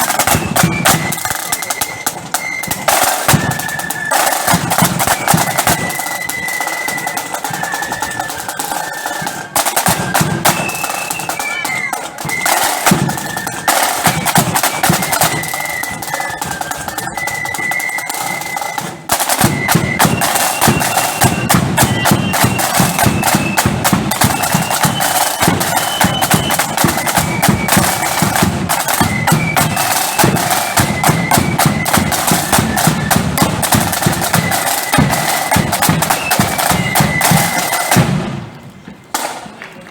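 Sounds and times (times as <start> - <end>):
rattling snare drums: 0.0 - 39.6
marching flute band: 0.0 - 39.8.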